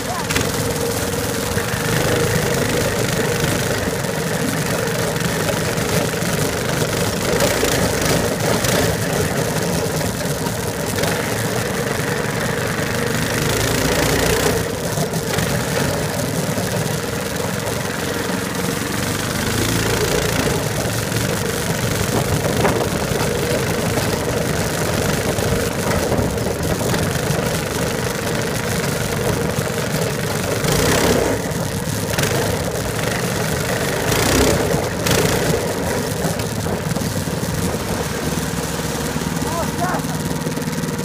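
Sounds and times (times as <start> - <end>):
off-road vehicle engine running: 0.0 - 41.0.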